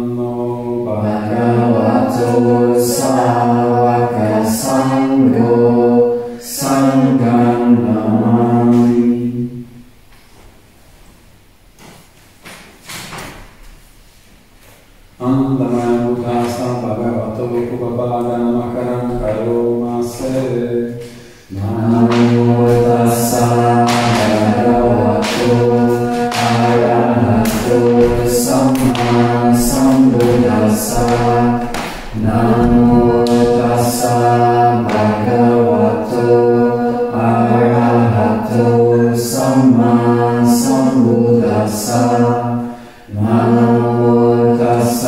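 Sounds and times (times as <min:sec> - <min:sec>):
group chanting: 0:00.0 - 0:09.8, 0:15.2 - 0:45.0.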